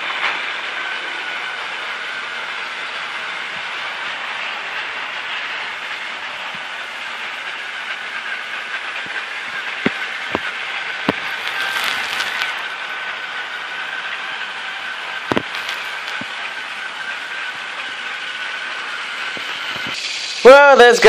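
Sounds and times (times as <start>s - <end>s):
toy train motor whirring: 0.7s - 21.0s.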